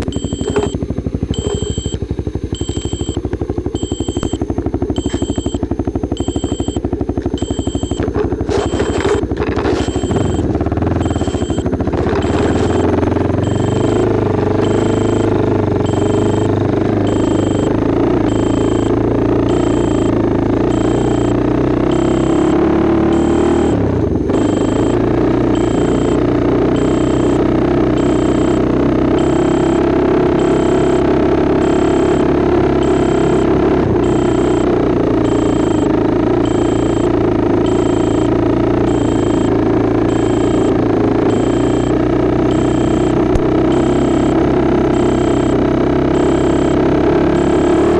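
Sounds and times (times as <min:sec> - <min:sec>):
short high electronic beeps: 0:00.0 - 0:03.2, 0:03.8 - 0:47.9
atv engine running: 0:00.0 - 0:47.9
loud steady drone: 0:00.0 - 0:47.9.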